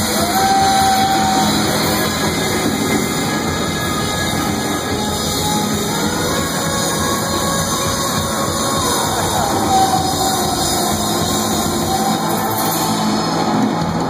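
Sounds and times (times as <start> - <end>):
electric guitars: 0.0 - 14.0
live rock band playing: 0.0 - 14.0.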